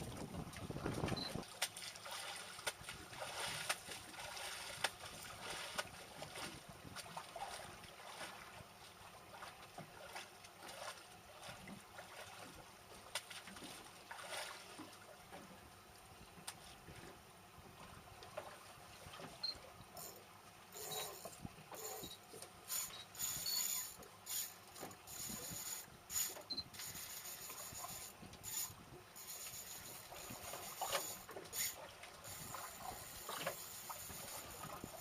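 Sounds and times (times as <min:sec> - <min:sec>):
water lapping against boat hull: 0:00.0 - 0:35.0.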